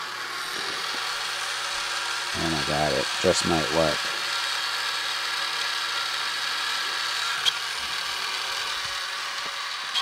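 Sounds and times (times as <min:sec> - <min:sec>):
small motor whining: 0:00.0 - 0:10.0.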